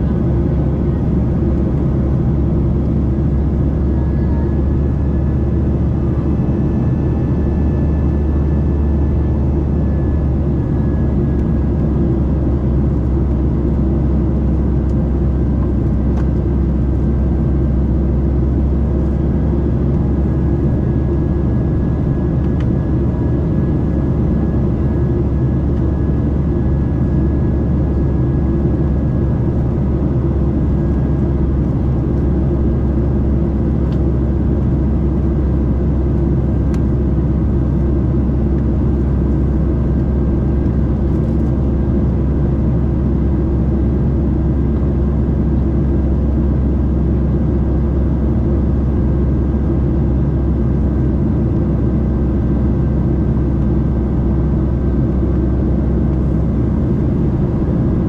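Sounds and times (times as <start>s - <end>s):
airplane engine and air rumble: 0.0s - 58.0s.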